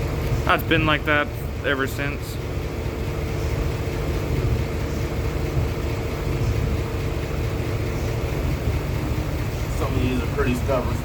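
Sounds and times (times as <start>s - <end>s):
electrical hum: 0.0s - 11.0s
machine low drone: 0.0s - 11.0s.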